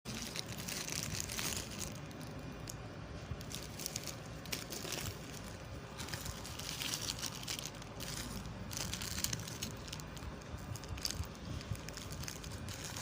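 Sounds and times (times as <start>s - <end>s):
packaging crinkling: 0.1s - 13.0s.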